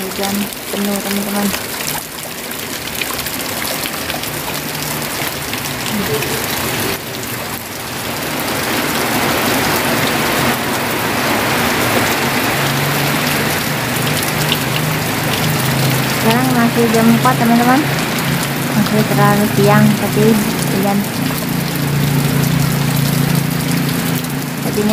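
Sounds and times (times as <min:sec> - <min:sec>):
heavy rain on concrete: 0:00.0 - 0:24.9
rain into water-filled buckets: 0:00.0 - 0:24.9.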